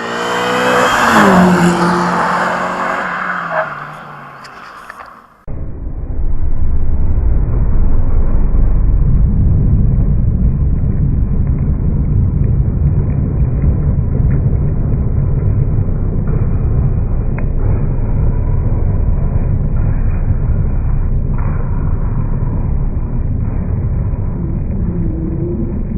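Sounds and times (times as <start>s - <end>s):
car exhaust deep rumble: 3.8s - 25.9s.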